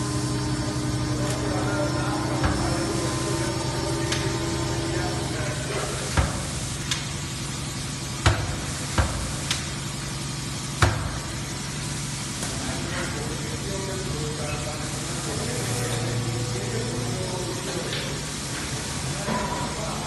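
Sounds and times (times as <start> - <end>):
factory machinery humming: 0.0 - 20.0.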